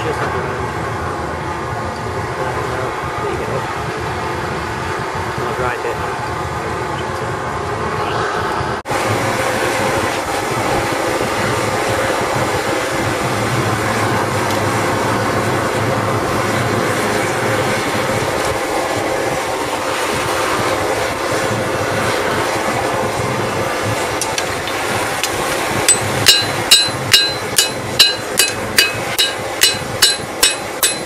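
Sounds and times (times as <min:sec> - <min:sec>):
propane burner rushing: 0:00.0 - 0:31.0.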